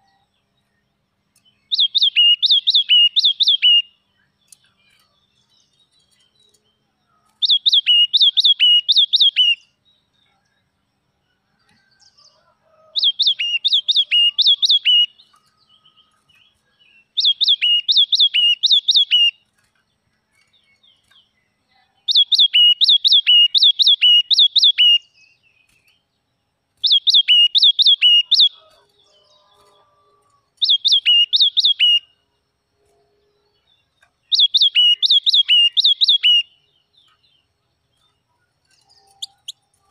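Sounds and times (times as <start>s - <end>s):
bird singing whistled notes: 0.0s - 10.6s, 13.0s - 19.4s, 20.3s - 26.1s, 26.8s - 39.9s.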